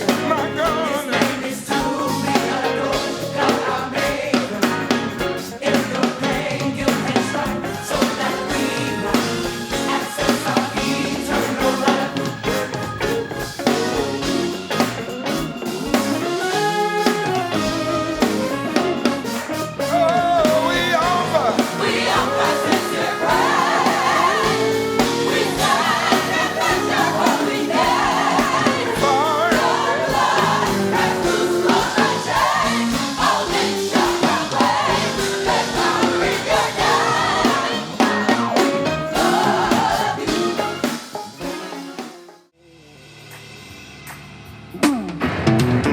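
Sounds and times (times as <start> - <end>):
gospel choir singing: 0.0 - 42.3
band with drum kit: 0.0 - 45.9.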